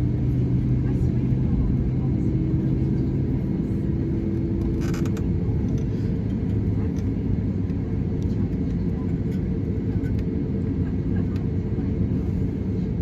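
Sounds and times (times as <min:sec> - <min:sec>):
aircraft cabin low rumble: 0:00.0 - 0:13.0.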